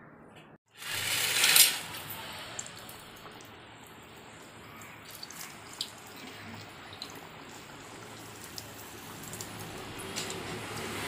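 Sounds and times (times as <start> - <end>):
oil sizzling: 0.8 - 11.0.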